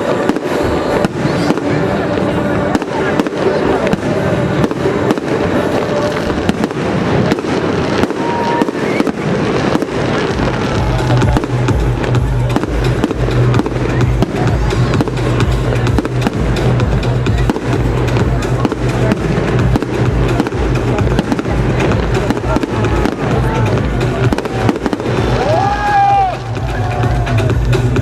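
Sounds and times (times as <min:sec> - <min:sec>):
fireworks bangs and crackles: 0:00.0 - 0:28.0
music with heavy bass: 0:00.0 - 0:28.0.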